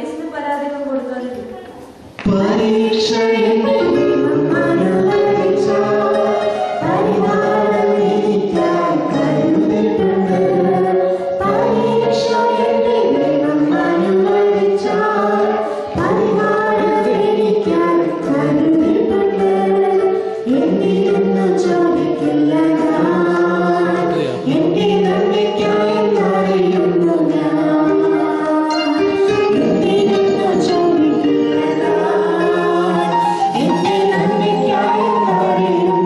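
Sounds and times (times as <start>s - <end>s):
woman and man singing together: 2.1s - 36.0s.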